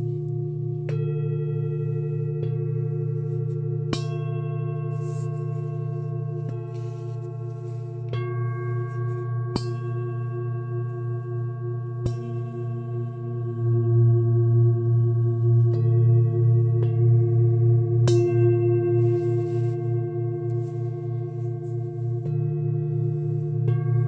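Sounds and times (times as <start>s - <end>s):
singing bowls struck: 0.0s - 24.0s.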